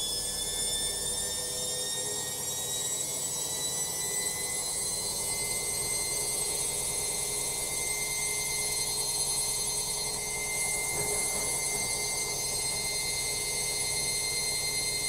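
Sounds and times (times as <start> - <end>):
washing machine spinning with whine: 0.0 - 15.0.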